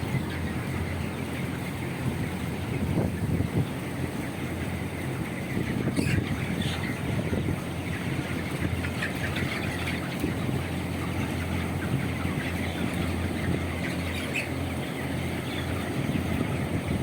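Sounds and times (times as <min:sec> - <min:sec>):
chickens peeping and squawking: 0:00.0 - 0:17.0
low mechanical hum: 0:00.0 - 0:17.0.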